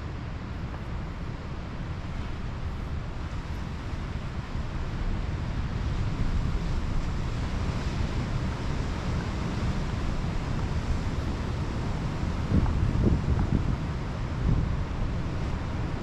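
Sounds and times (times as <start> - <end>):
wind buffeting microphone: 0.0 - 16.0
surf washing on beach: 0.2 - 16.0.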